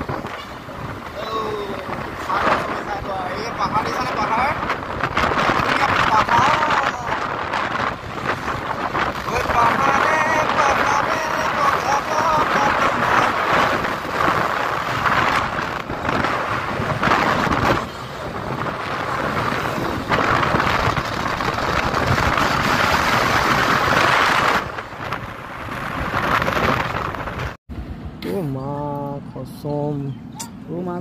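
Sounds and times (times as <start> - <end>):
wind buffeting microphone: 0.0 - 28.2.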